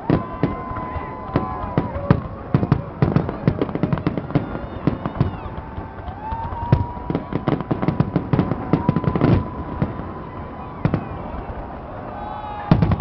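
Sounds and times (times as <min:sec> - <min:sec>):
fireworks bangs and crackles: 0:00.0 - 0:13.0
fireworks whistling: 0:00.0 - 0:13.0.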